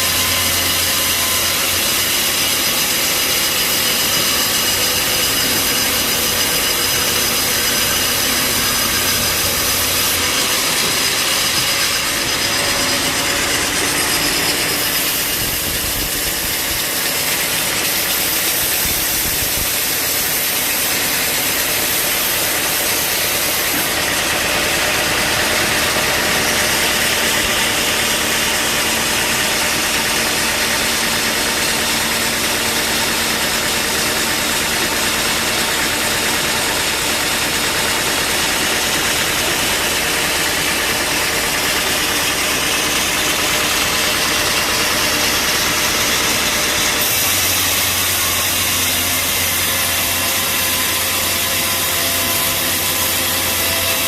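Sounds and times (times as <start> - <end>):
machine hums and whines: 0.0 - 54.0
sawmill machine din: 0.0 - 54.0.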